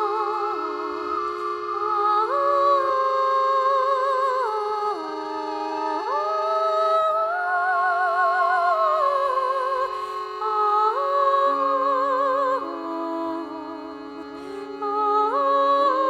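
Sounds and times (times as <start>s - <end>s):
slow sliding melody over drone: 0.0s - 16.0s.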